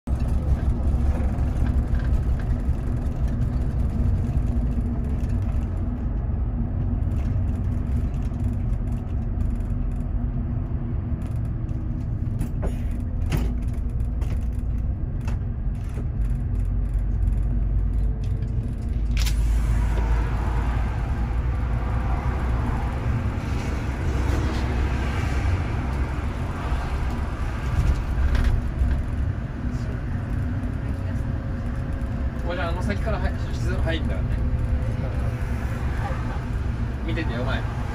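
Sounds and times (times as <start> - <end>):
bus engine and tyres rumbling: 0.0 - 37.9.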